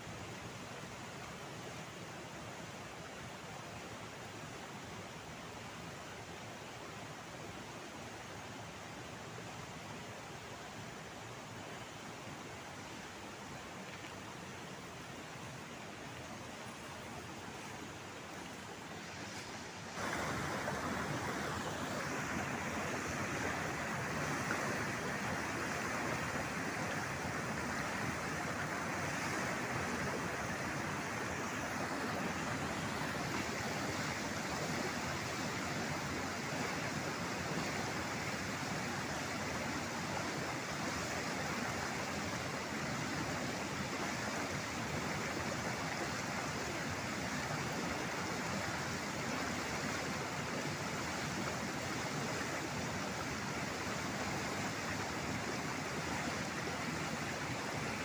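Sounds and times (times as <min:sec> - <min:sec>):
waterfall and rapids rushing: 0:00.0 - 0:58.0.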